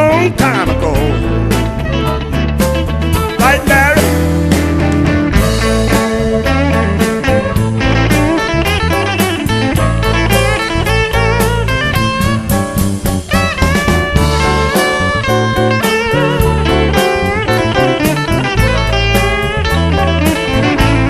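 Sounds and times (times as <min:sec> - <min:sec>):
drums: 0:00.0 - 0:21.0
electric bass: 0:00.0 - 0:21.0
lead electric guitar bending notes: 0:00.0 - 0:21.0.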